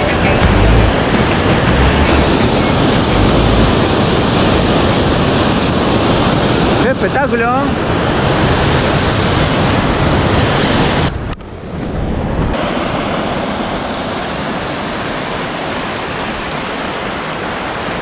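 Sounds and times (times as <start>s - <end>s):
rushing river water: 0.0s - 11.1s, 12.6s - 18.0s.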